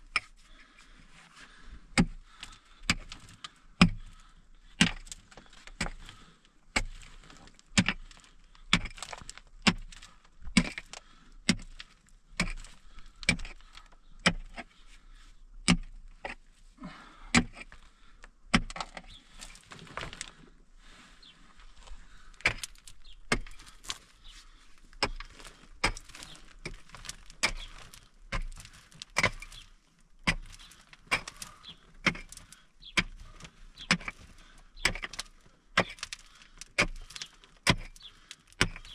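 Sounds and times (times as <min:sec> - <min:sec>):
pickaxe striking earth and stones: 0:02.0 - 0:04.2, 0:04.8 - 0:14.7, 0:15.6 - 0:16.4, 0:17.3 - 0:17.8, 0:18.5 - 0:20.4, 0:22.4 - 0:38.9.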